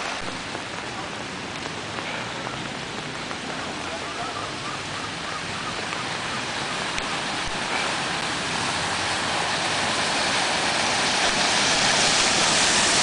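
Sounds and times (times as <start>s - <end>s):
car ploughing through floodwater: 0.0s - 13.0s
heavy rain hissing: 0.0s - 13.0s.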